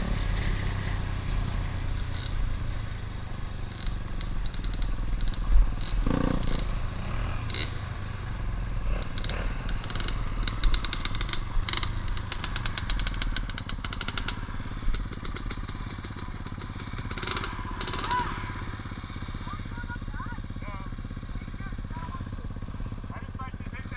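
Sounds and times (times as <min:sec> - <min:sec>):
dirt bike engine running: 0:00.0 - 0:23.9.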